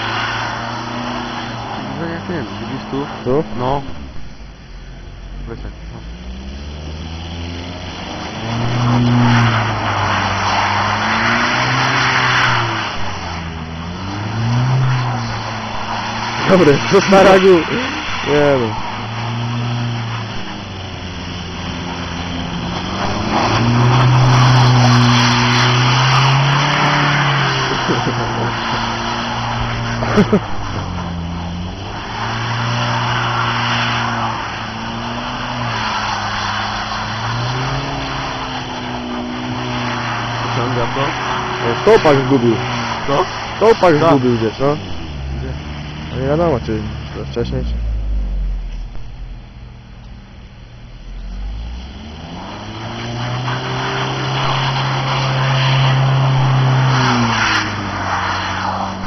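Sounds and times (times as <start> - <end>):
tyres spinning in snow: 0.0 - 47.7, 50.2 - 59.0
car engine revving: 0.0 - 59.0.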